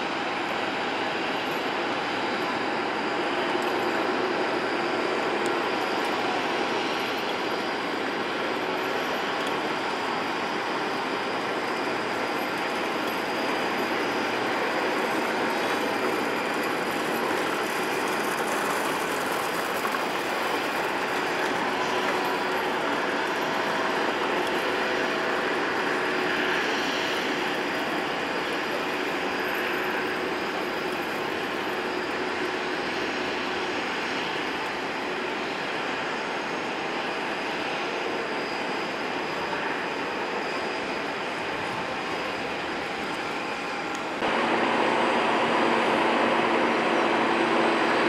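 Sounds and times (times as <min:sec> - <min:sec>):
faint high whine: 0:00.0 - 0:48.0
jet engine rushing: 0:00.0 - 0:48.0.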